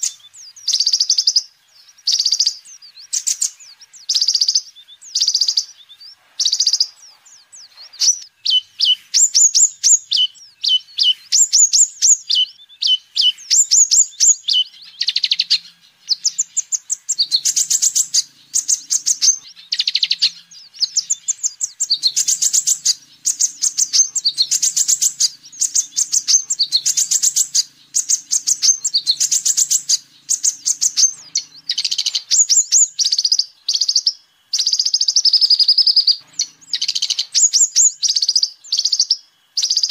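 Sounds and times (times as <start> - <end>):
sunbird singing: 0.0 - 39.9
faint low hum: 1.6 - 33.1, 36.1 - 38.0.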